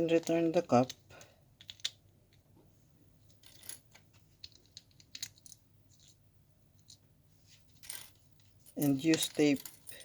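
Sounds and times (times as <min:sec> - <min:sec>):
small parts clicking and tapping: 0:00.0 - 0:02.6, 0:03.2 - 0:06.2, 0:06.8 - 0:07.1, 0:07.8 - 0:10.0.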